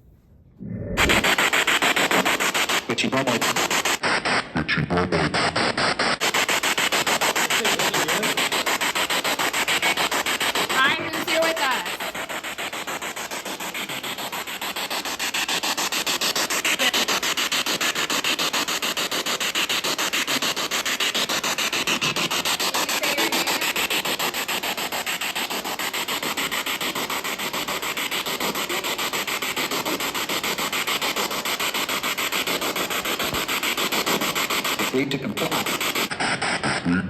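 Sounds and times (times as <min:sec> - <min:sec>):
pulsing radio static hiss: 0:01.0 - 0:37.0.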